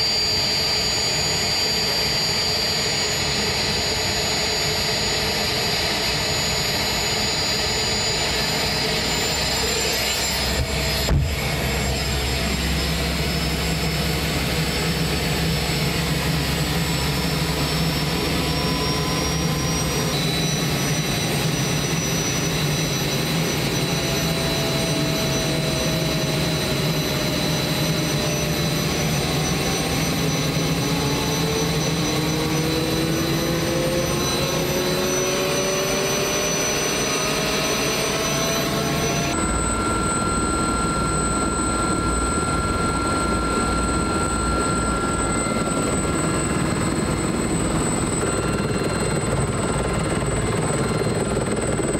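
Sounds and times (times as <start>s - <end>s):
rotor drone: 0.0s - 51.9s
turbine engine whine: 0.0s - 51.9s.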